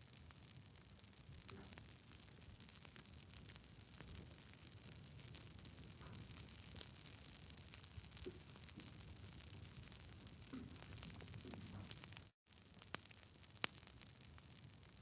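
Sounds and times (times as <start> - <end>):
campfire crackling and popping: 0.1 - 15.0.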